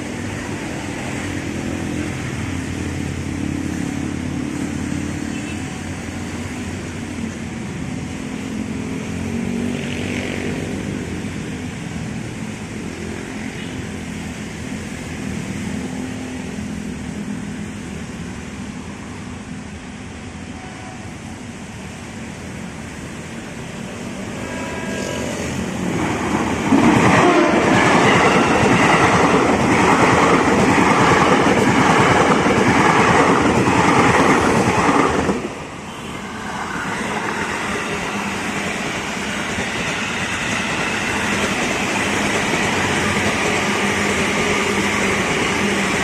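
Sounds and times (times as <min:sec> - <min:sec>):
diesel locomotive engine drone: 0:00.0 - 0:46.0.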